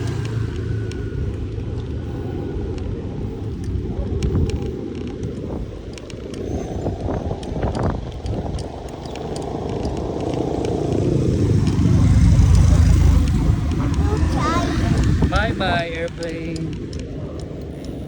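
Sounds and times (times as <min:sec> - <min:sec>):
bicycle road noise: 0:00.0 - 0:18.0
small clicks: 0:00.0 - 0:18.0
wind rumbling on microphone: 0:00.0 - 0:18.0.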